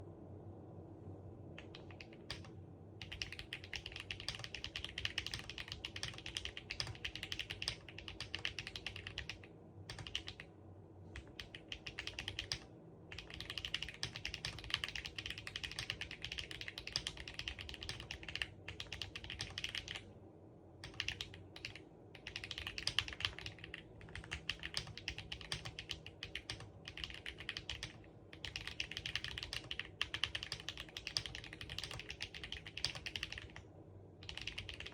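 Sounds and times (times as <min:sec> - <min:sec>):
fast typing on mechanical keyboard: 0:01.6 - 0:10.5, 0:11.2 - 0:20.0, 0:20.8 - 0:33.6, 0:34.2 - 0:34.9.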